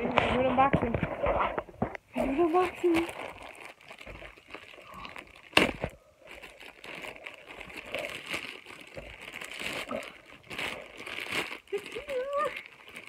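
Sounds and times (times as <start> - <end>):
plastic bag crinkling: 2.0 - 13.0.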